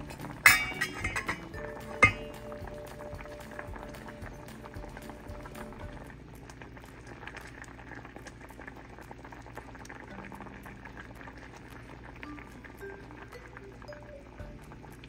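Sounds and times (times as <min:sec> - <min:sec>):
curry bubbling at a boil: 0:00.0 - 0:15.0.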